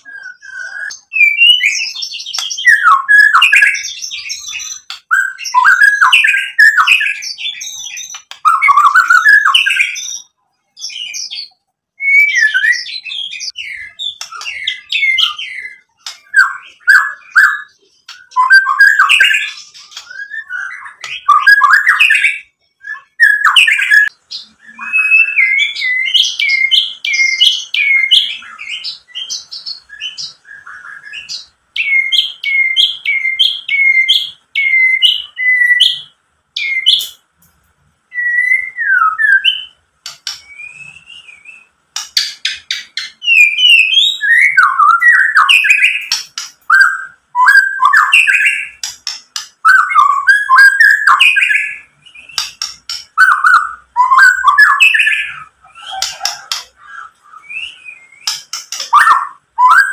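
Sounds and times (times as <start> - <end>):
bird singing whistled phrases: 0.0 - 37.2, 38.1 - 41.8, 42.4 - 59.9.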